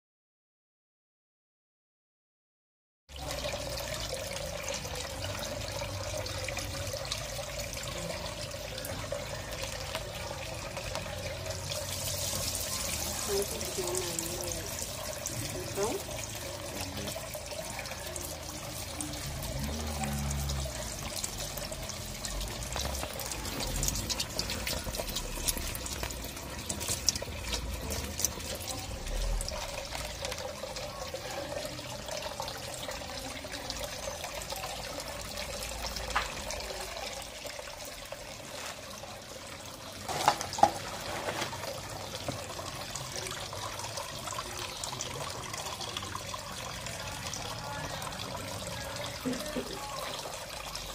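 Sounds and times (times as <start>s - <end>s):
water pouring into a tank: 3.1s - 50.9s.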